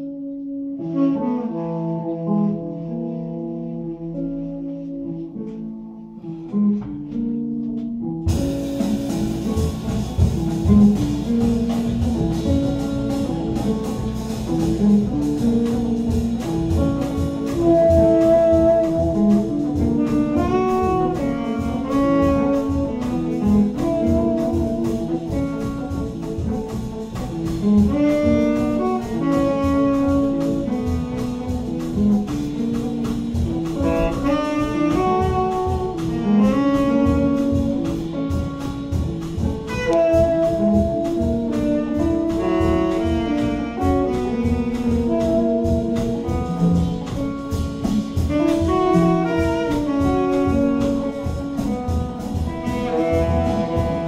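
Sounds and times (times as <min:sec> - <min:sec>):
saxophone melody: 0:00.0 - 0:13.7, 0:15.1 - 0:54.0
double bass: 0:00.0 - 0:54.0
piano: 0:00.0 - 0:54.0
electric guitar: 0:04.1 - 0:54.0
drums and cymbals: 0:08.2 - 0:54.0.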